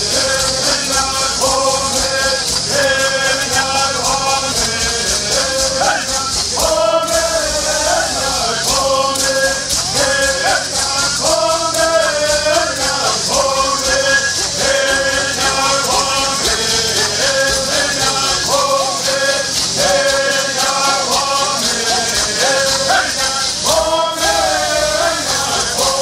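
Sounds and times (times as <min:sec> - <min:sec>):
gourd rattles shaken: 0:00.0 - 0:26.0
men singing together: 0:00.0 - 0:26.0.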